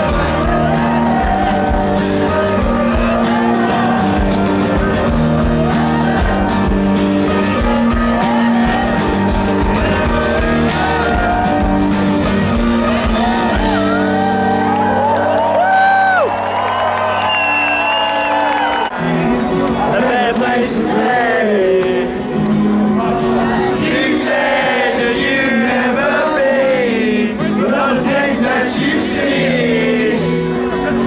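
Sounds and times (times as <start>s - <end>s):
person singing lead vocal: 0.0s - 14.7s, 19.7s - 31.0s
rock band playing: 0.0s - 25.8s, 27.1s - 31.0s.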